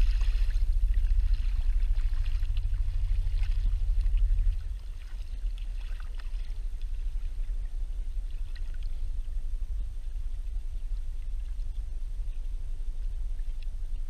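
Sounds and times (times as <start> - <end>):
boat engine rumble: 0.0 - 14.0
water splashing on hull: 0.0 - 14.0.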